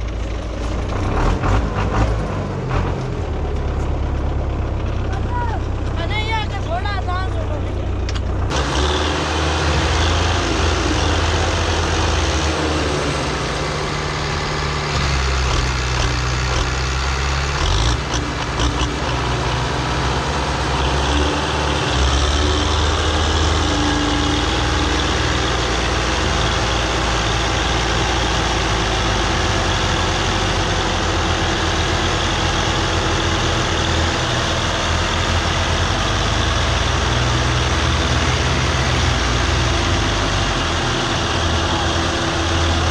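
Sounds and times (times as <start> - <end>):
tractor diesel engines straining: 0.0 - 42.9.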